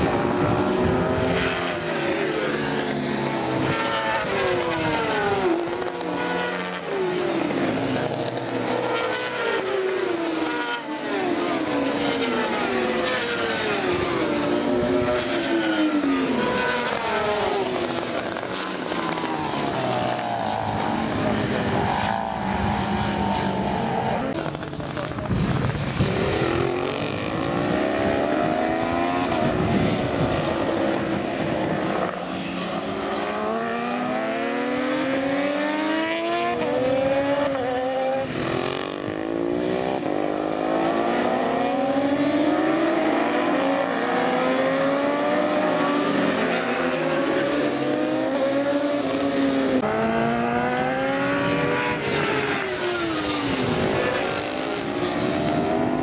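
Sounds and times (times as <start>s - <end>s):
racing motorcycles accelerating past: 0.0s - 56.0s.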